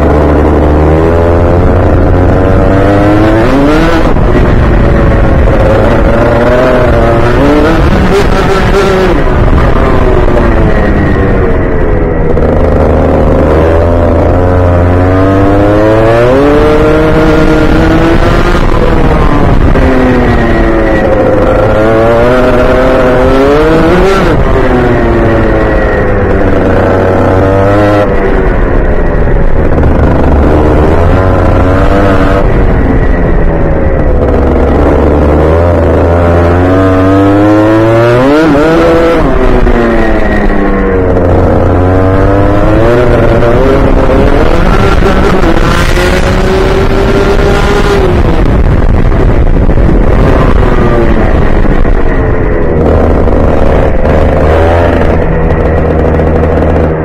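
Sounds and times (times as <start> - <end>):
kart engine racing: 0.0 - 57.0.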